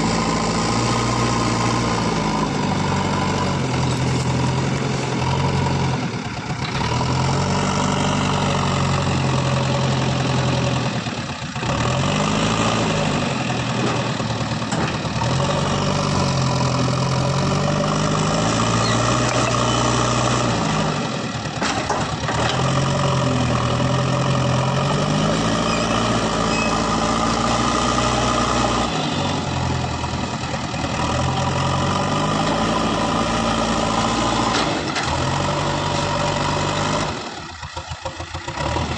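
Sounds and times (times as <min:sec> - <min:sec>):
diesel engine revving under load: 0:00.0 - 0:38.9.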